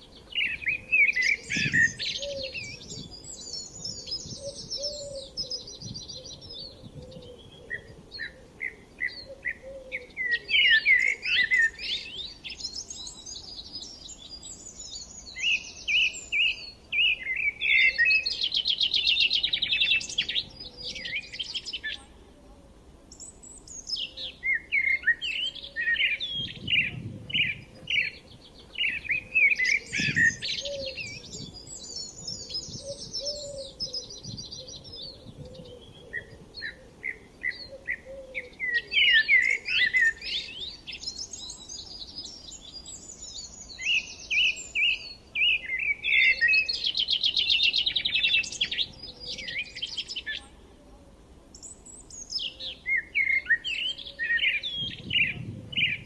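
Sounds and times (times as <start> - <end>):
songbirds chirping and singing: 0.0 - 22.2, 23.1 - 56.0.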